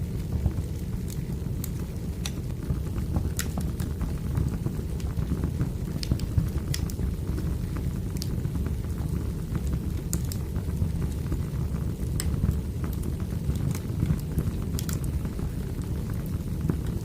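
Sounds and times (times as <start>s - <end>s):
wood fire burning: 0.0s - 17.0s.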